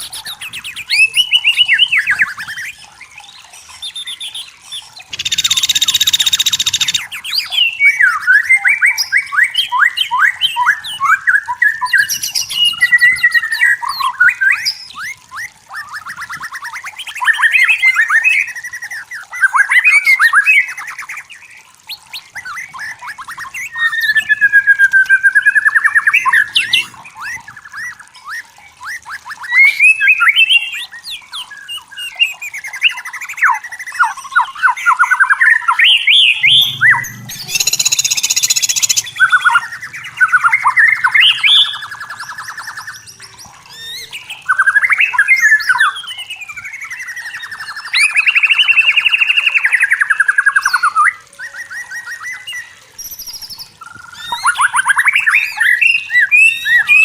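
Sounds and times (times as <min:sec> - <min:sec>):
songbird singing varied trills: 0:00.0 - 0:57.0.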